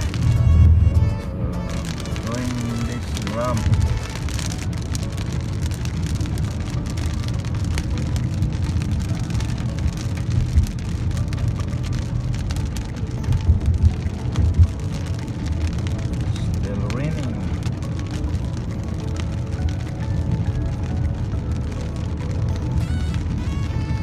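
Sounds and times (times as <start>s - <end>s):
car engine and tyres on wet road: 0.0s - 24.0s
raindrops ticking on windshield: 0.0s - 24.0s.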